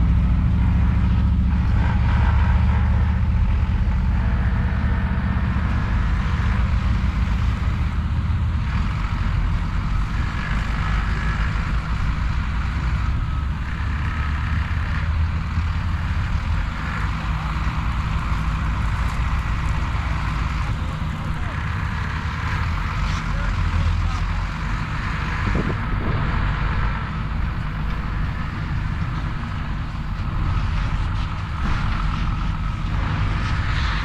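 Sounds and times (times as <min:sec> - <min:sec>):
large engine rumbling: 0:00.0 - 0:34.0.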